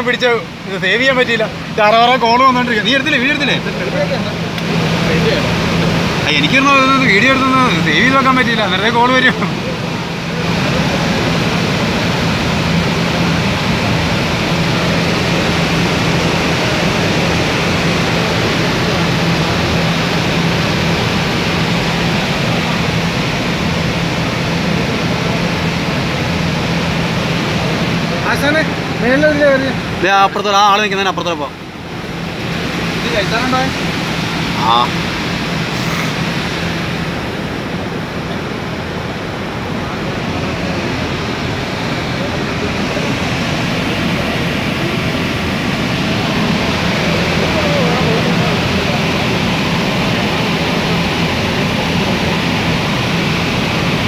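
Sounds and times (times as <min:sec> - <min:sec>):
constant low hum: 0:00.0 - 0:54.0
water rushing over spillway: 0:00.0 - 0:54.0.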